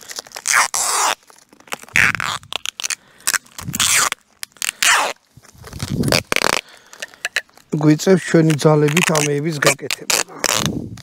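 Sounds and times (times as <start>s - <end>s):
adhesive tape pulled off roll: 0.0s - 11.0s.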